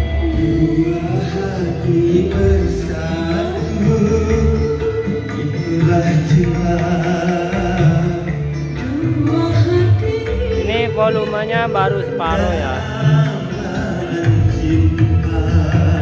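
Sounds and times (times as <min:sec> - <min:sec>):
song with singing and strong bass: 0:00.0 - 0:16.0.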